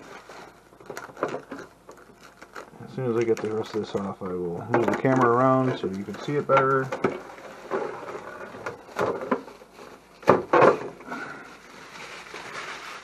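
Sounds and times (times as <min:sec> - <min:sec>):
thin plastic film crackling: 0:00.0 - 0:04.2, 0:05.0 - 0:10.3, 0:11.1 - 0:13.0.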